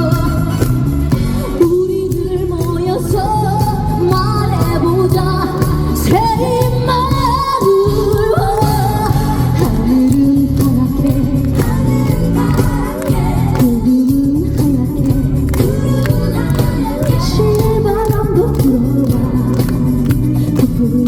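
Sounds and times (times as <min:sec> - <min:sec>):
amplified band accompaniment: 0:00.0 - 0:21.0
woman singing: 0:00.0 - 0:21.0.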